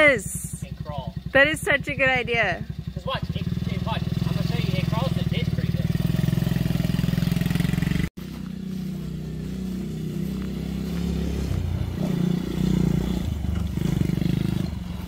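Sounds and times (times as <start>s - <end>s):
small engine revving: 1.1s - 15.0s.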